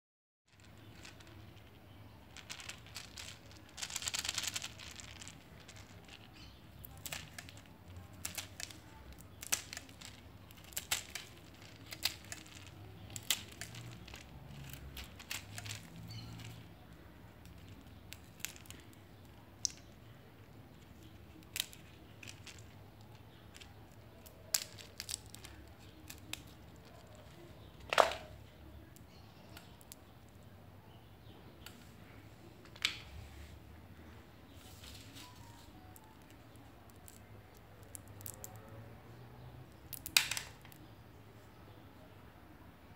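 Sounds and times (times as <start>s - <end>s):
pods cracking: 0.5s - 31.0s, 34.6s - 38.9s, 39.6s - 40.9s
rustling of pods and plastic: 0.5s - 41.5s.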